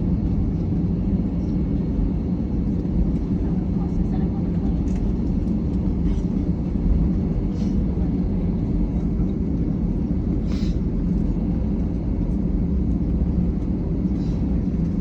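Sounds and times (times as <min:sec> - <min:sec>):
jet engines rumbling in cabin: 0:00.0 - 0:15.0.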